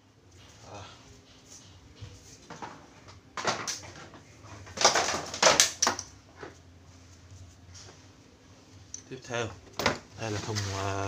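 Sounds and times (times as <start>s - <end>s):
rustling and scraping: 0.3s - 5.6s, 6.2s - 11.0s.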